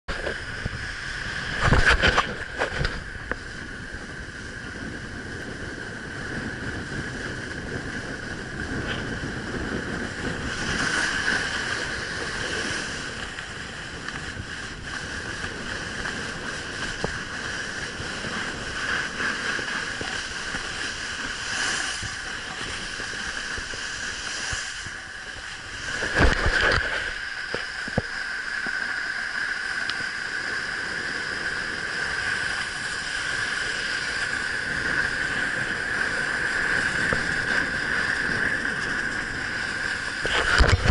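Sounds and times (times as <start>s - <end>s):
wind on camera microphone: 0.0s - 40.9s
snowboard sliding over snow: 0.1s - 40.9s.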